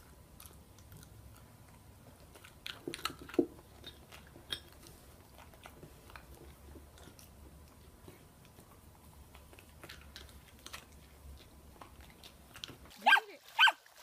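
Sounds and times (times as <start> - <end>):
dog chewing and crunching food: 0.0 - 14.0.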